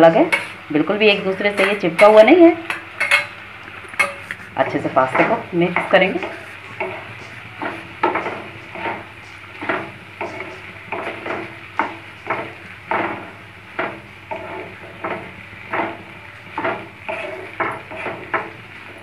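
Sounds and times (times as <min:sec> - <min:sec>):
spatula scraping a pan: 0:00.2 - 0:19.0.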